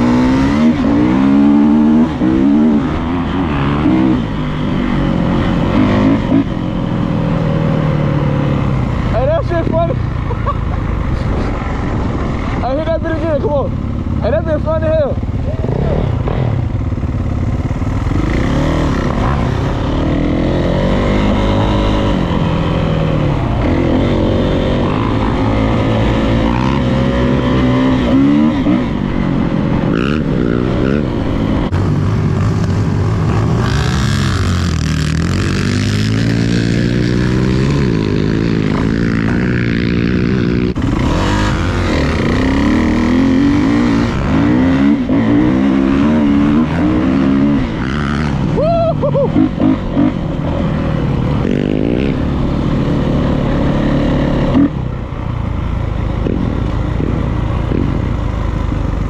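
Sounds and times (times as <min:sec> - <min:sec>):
dirt bike engine revving: 0:00.0 - 0:10.4, 0:11.0 - 0:55.0.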